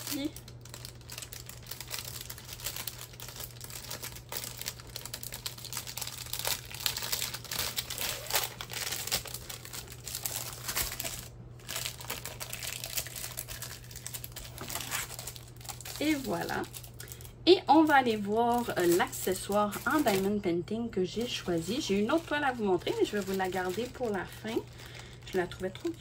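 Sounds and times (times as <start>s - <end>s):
plastic wrapping crinkling: 0.0s - 26.0s.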